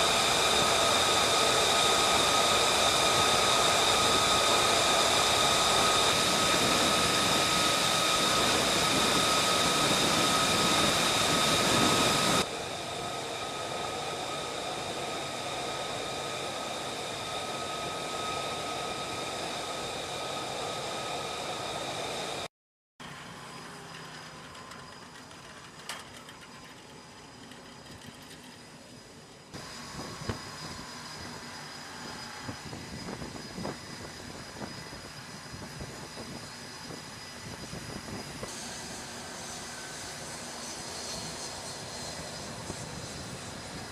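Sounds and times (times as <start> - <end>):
jet engine rushing with whine: 0.0 - 43.9.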